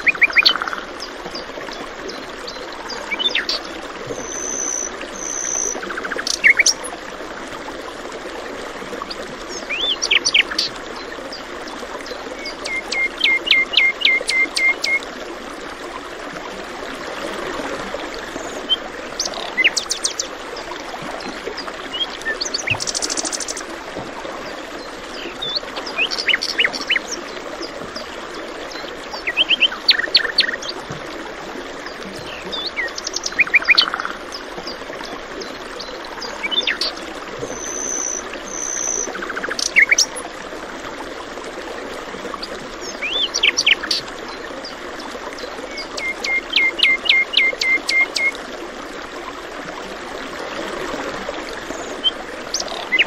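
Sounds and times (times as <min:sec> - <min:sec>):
flowing water rushing: 0:00.0 - 0:53.0.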